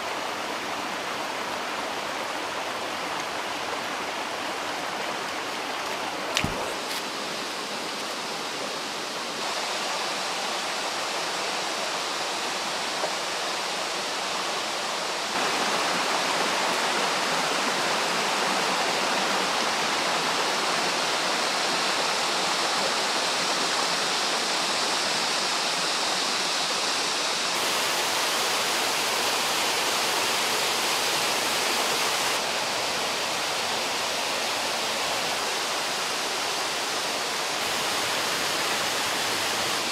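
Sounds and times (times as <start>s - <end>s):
stream and waterfall rushing: 0.0s - 39.9s.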